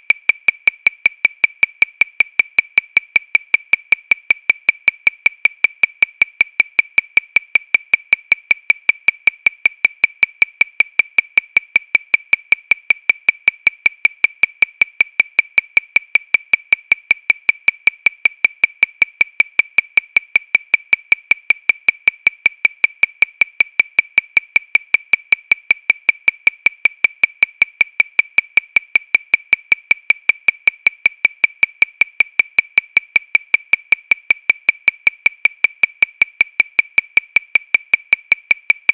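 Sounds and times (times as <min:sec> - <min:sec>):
metronome clicking: 0:00.0 - 0:38.9.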